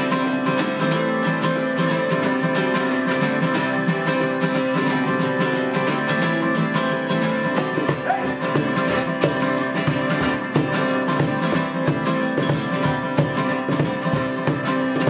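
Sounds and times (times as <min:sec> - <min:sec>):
guitars strumming: 0:00.0 - 0:15.0
live rock band playing: 0:01.5 - 0:15.0.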